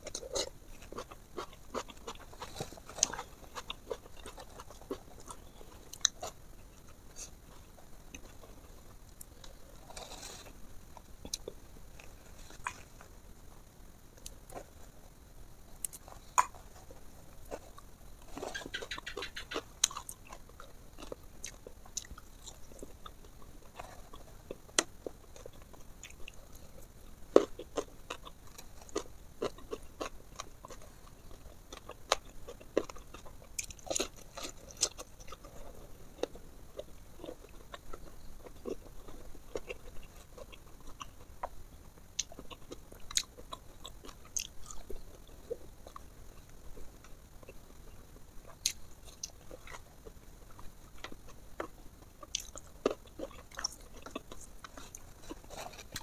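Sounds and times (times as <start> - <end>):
chewing and crunching: 0.0 - 13.3, 14.2 - 15.1, 15.7 - 56.0.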